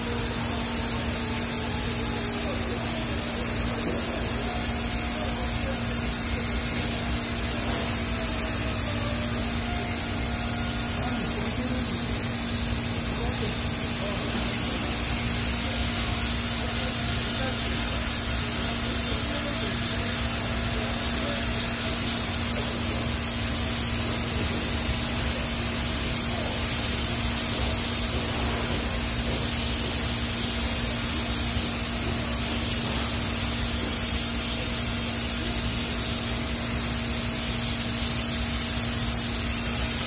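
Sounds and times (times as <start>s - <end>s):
welding arc hissing: 0.0s - 40.0s.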